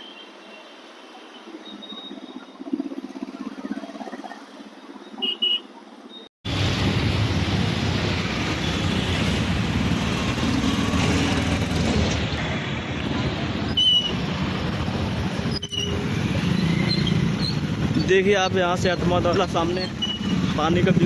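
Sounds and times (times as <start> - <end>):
road traffic rushing past: 0.0 - 21.0.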